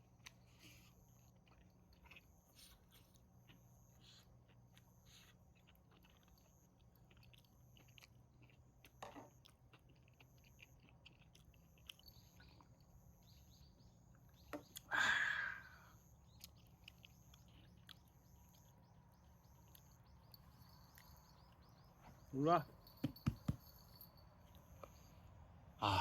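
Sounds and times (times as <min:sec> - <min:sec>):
chewing: 0:00.0 - 0:14.9, 0:16.0 - 0:22.3.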